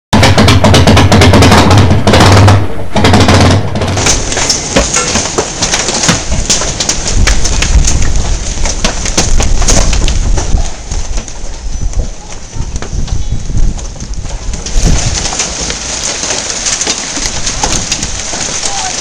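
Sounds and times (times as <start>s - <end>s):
hailstones pelting down: 1.1s - 19.0s.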